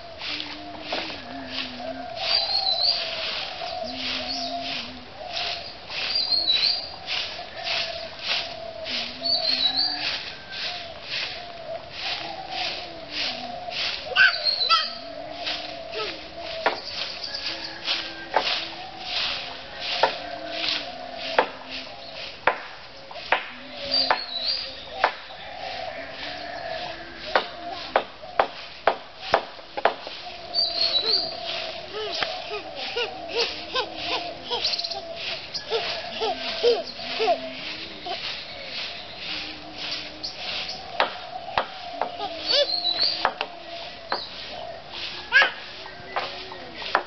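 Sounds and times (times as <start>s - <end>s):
dove cooing: 0.0s - 22.4s, 23.1s - 47.0s
broom swishing over dirt: 0.0s - 47.0s
bird chirping: 0.8s - 21.3s, 23.0s - 29.5s, 30.1s - 47.0s.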